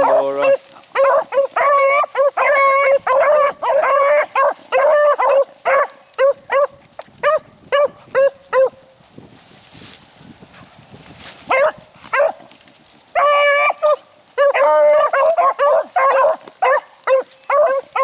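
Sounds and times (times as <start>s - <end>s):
dogs barking and baying: 0.0s - 8.9s, 11.5s - 12.5s, 13.1s - 18.0s.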